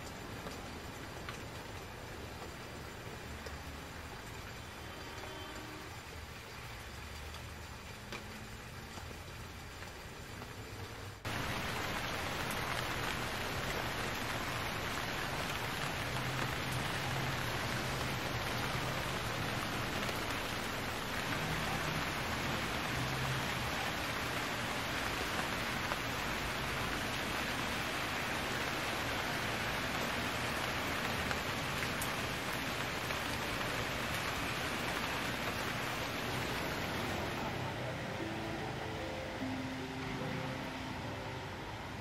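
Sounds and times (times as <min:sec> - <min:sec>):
rain hiss: 0:00.0 - 0:42.0.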